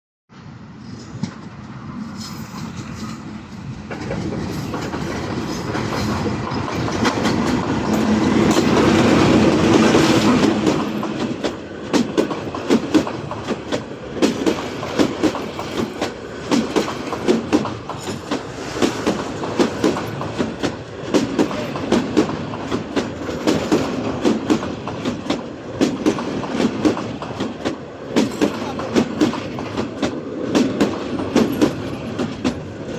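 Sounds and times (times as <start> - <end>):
train wheels clattering on rails: 0.9 - 32.9.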